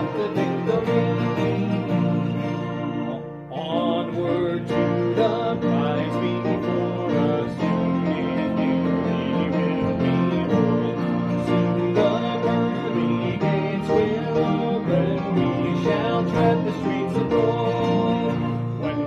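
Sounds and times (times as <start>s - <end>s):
hymn singing: 0.0s - 19.0s
instrumental accompaniment: 0.0s - 19.0s.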